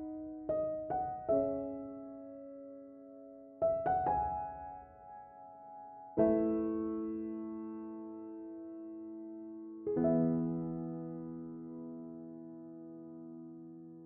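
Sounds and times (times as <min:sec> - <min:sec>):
slow solo piano music: 0:00.0 - 0:14.0.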